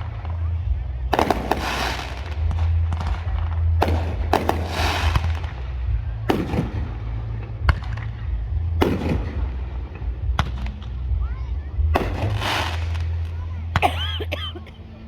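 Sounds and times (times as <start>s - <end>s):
fireworks bangs: 0.0s - 11.2s, 11.8s - 14.0s
steady low rumble: 0.0s - 15.0s.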